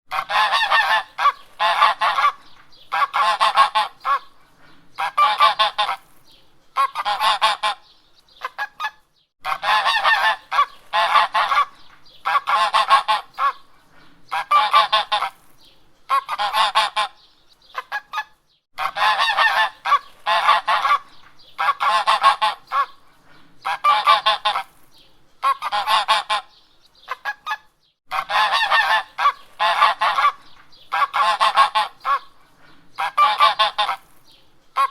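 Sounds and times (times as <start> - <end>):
geese honking: 0.1 - 4.3, 5.0 - 6.0, 6.8 - 13.7, 14.3 - 15.4, 16.1 - 17.2, 17.8 - 23.0, 23.6 - 24.7, 25.4 - 32.4, 33.0 - 34.1.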